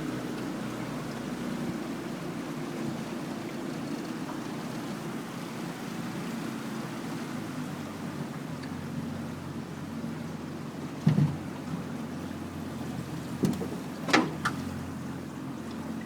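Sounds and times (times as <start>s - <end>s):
boat motor running: 0.0s - 16.0s
wind: 0.0s - 16.0s.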